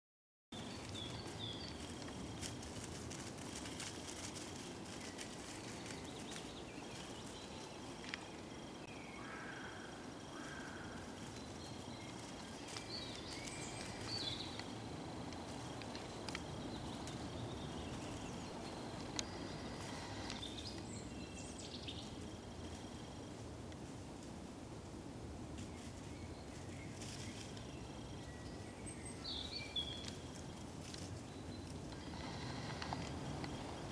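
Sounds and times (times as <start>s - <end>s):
low background noise: 0.6s - 33.9s.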